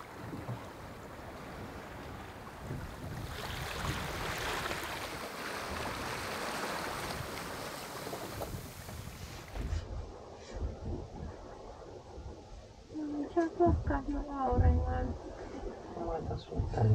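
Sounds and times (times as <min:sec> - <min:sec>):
water splashing along boat hull: 0:00.0 - 0:16.9
wind rumble on microphone: 0:00.0 - 0:16.9.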